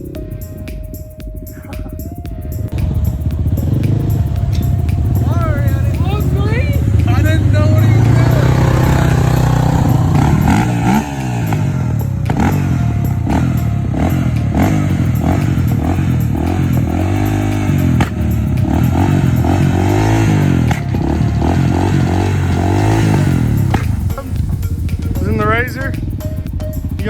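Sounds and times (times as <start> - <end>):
off-road vehicle engine revving: 2.7 - 26.2.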